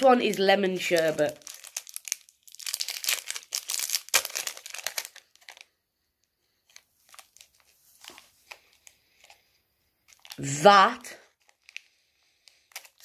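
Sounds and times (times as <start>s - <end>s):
plastic wrapper crinkling: 0.0s - 5.8s, 6.6s - 10.6s, 11.2s - 13.0s.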